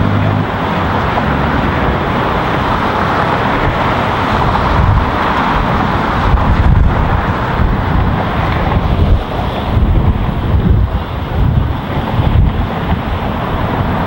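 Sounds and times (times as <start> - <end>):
fast car traffic passing: 0.0 - 14.0.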